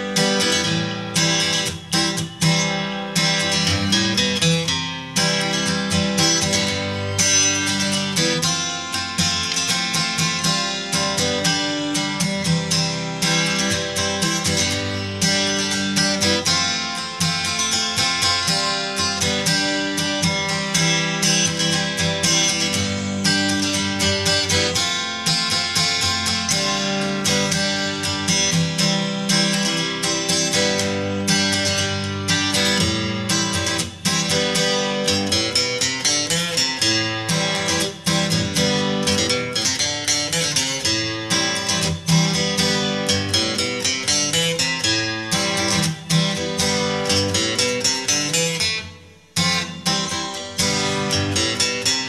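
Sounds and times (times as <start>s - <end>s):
strummed guitar: 0.0s - 52.0s.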